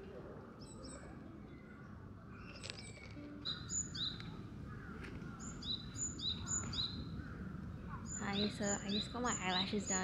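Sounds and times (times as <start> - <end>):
small birds chirping: 0.6 - 10.0.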